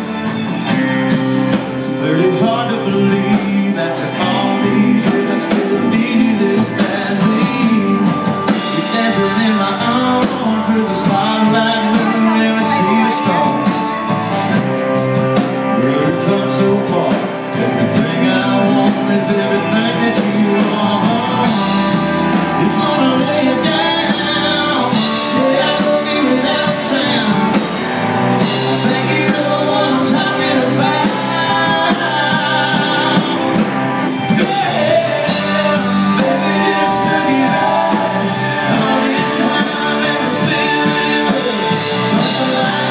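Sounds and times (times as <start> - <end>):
drum kit beat: 0.0 - 42.9
guitars playing: 0.0 - 42.9
keyboard: 0.0 - 42.9.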